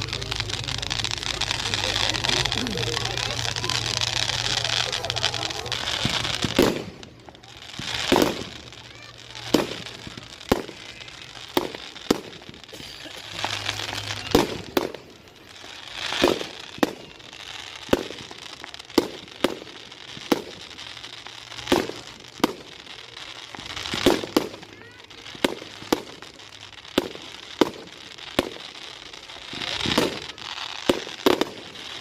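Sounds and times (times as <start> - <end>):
fireworks banging: 0.0 - 32.0
fireworks rushing: 0.0 - 32.0.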